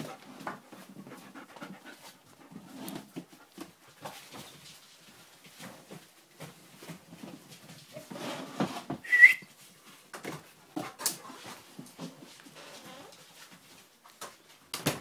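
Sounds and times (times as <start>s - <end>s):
dogs scuffling: 0.0s - 14.7s.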